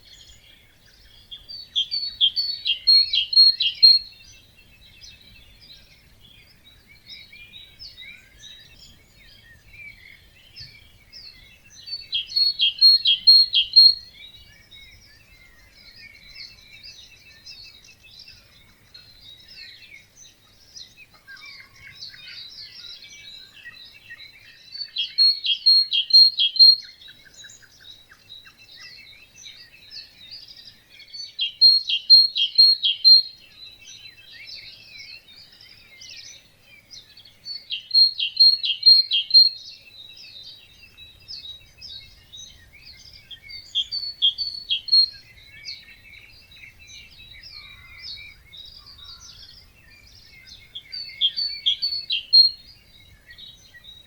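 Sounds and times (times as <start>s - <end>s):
chorus of birds chirping: 0.0s - 54.0s
nearby bird loud short song: 0.0s - 54.0s.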